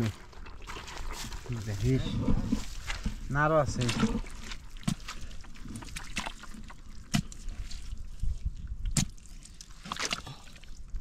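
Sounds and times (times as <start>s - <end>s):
stick squelching in mud: 0.3s - 10.8s.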